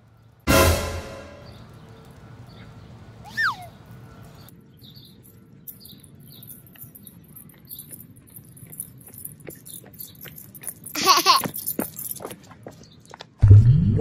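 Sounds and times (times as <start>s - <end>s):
outdoor background noise: 0.0s - 14.0s
small birds chirping: 1.4s - 13.3s.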